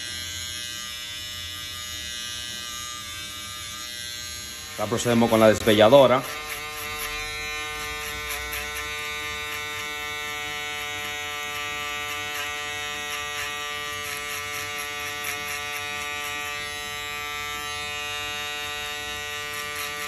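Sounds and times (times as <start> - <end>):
electric shaver buzzing: 0.0 - 20.0.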